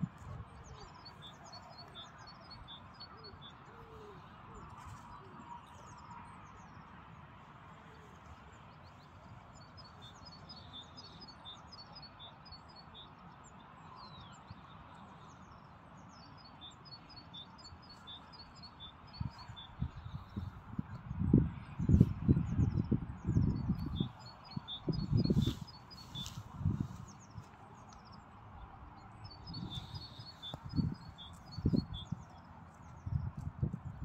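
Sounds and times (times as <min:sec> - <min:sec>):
faint outdoor background noise: 0:00.0 - 0:34.0.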